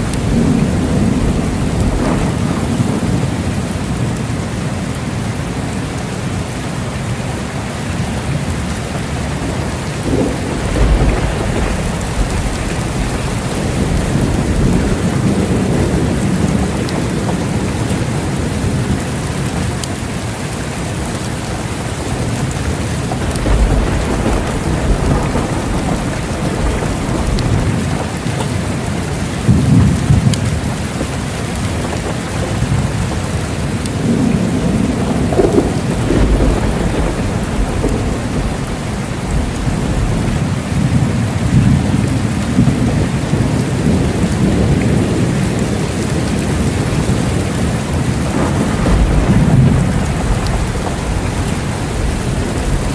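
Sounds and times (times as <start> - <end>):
low rolling thunder: 0.0 - 4.6, 8.5 - 52.9
steady rain falling: 0.0 - 52.9.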